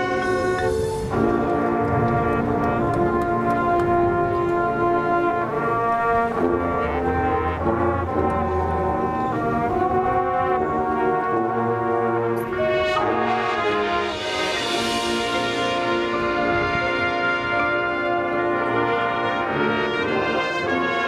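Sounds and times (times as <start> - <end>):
brass band chords: 0.0 - 21.0
low brass bass notes: 0.0 - 21.0.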